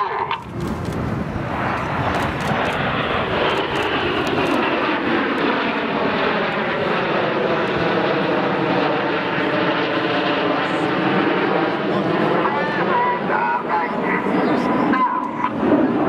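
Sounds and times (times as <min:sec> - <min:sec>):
jet engines roaring past: 0:00.0 - 0:16.0.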